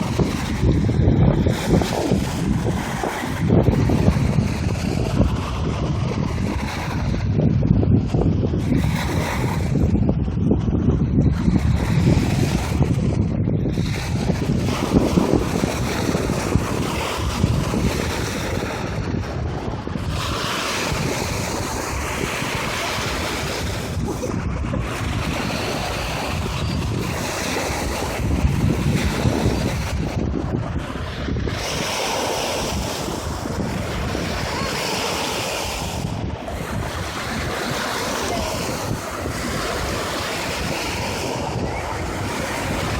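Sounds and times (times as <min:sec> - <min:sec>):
lake water washing: 0:00.0 - 0:10.3, 0:11.1 - 0:42.9
wind buffeting microphone: 0:00.0 - 0:42.9.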